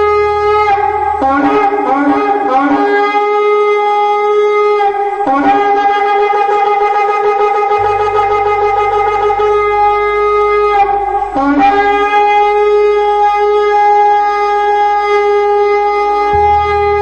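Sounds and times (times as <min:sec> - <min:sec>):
shofar blast: 0:00.0 - 0:17.0.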